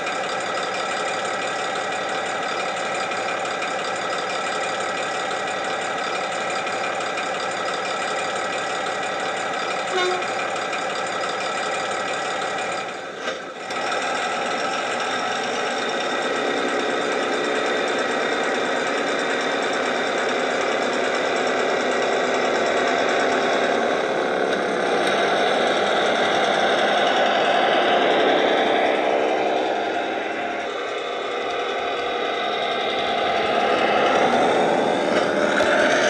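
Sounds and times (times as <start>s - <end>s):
diesel engine from small speaker: 0.0s - 36.0s.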